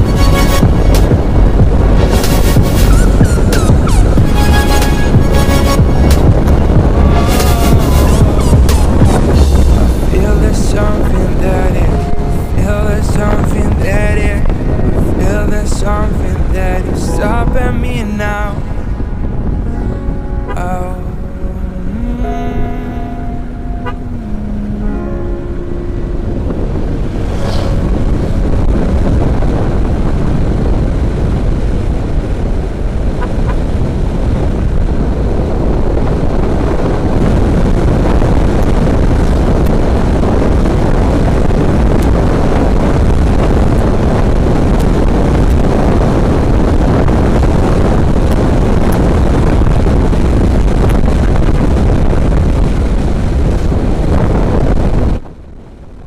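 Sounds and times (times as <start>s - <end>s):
motorcycle running: 0.0s - 10.4s, 18.9s - 55.1s
wind buffeting microphone: 0.0s - 56.0s.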